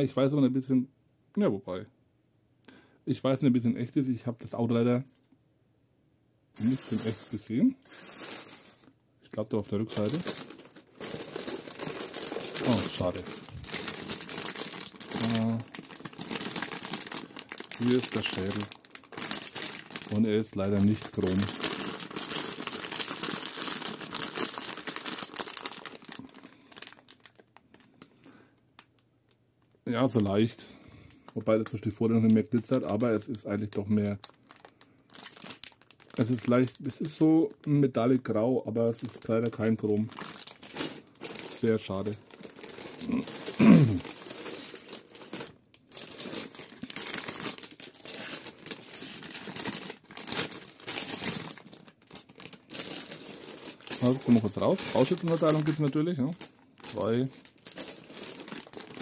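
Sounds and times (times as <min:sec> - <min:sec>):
plastic bag crinkling: 0:06.6 - 0:59.0.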